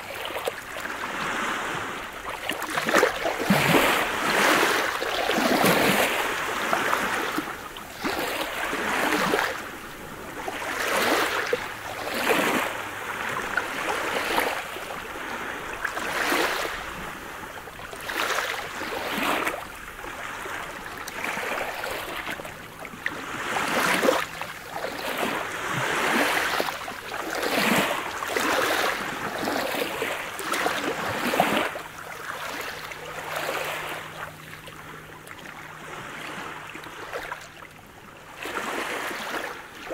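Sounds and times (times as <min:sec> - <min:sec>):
waves washing over pebbles: 0:00.0 - 0:34.4, 0:38.3 - 0:39.9.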